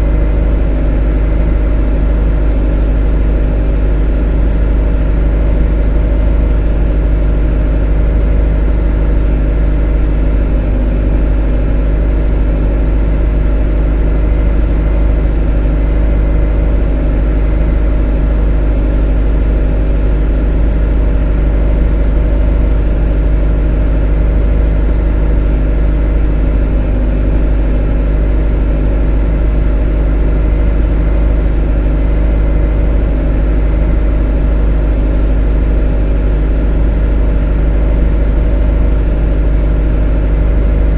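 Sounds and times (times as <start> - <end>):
motor humming: 0.0 - 40.9.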